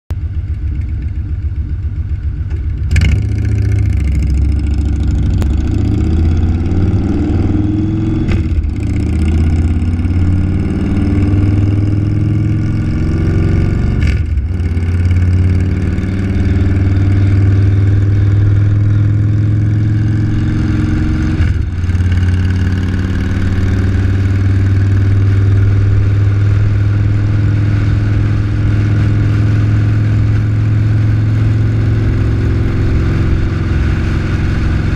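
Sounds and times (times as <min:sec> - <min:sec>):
vehicle engine accelerating: 0:00.1 - 0:34.9.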